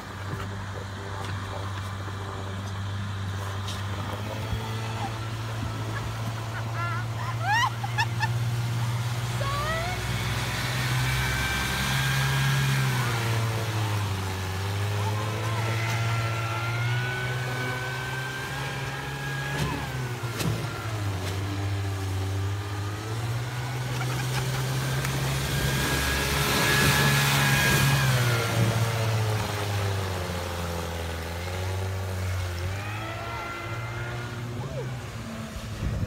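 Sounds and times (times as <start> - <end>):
outboard motor running hard: 0.0 - 36.0
rush of water spray: 2.7 - 36.0.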